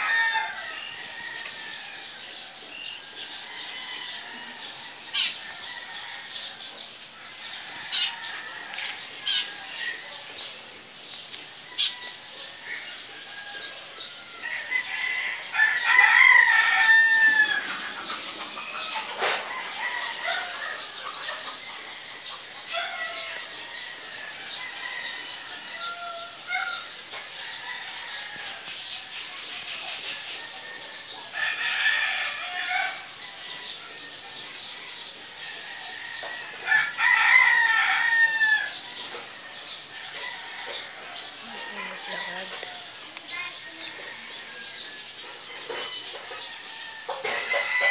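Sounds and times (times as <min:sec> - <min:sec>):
rooster crowing: 0:00.0 - 0:10.4, 0:11.7 - 0:28.8, 0:30.1 - 0:34.6, 0:35.4 - 0:47.9.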